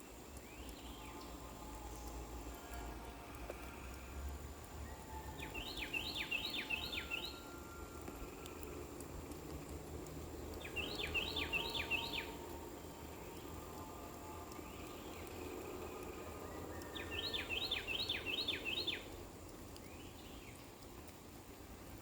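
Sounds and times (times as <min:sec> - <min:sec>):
gentle rain hiss: 0:00.0 - 0:22.0
songbird singing falling notes: 0:00.1 - 0:02.2, 0:04.7 - 0:19.1, 0:19.8 - 0:21.2.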